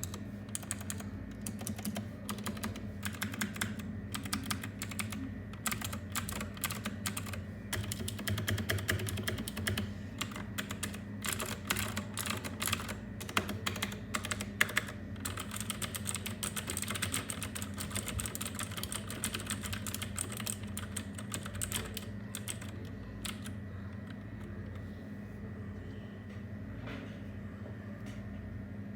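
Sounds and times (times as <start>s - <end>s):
mechanical keyboard typing: 0.0s - 24.8s.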